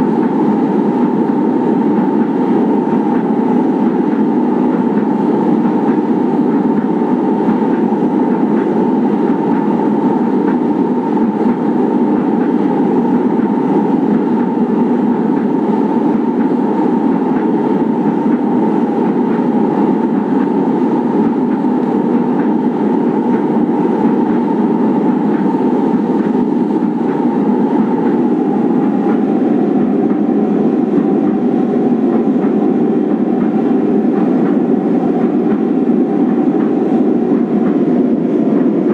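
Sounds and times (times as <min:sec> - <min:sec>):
rumble of wheels on rail: 0:00.0 - 0:38.9
train whine: 0:00.0 - 0:38.9.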